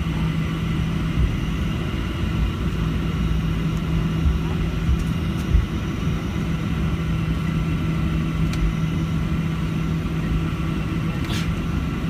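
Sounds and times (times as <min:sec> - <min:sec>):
constant low hum: 0:00.0 - 0:12.0
jet engines rumbling in cabin: 0:00.0 - 0:12.0.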